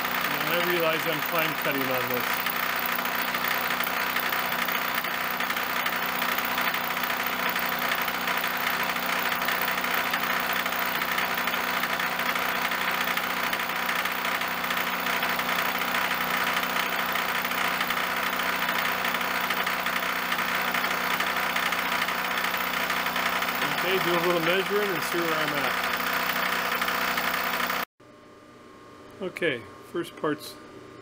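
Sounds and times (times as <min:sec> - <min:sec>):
milling machine cutting metal: 0:00.0 - 0:27.9.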